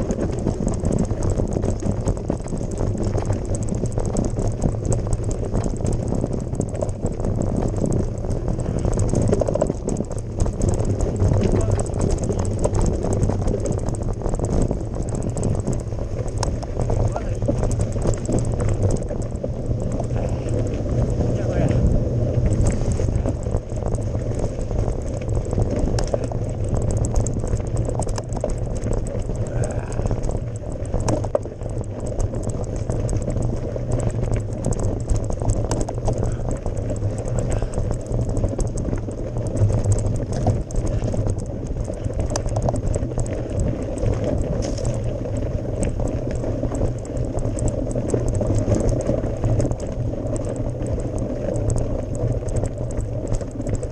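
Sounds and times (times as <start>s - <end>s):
bike rattling and clicking: 0.0s - 53.9s
bike tyres rumbling on gravel: 0.0s - 53.9s.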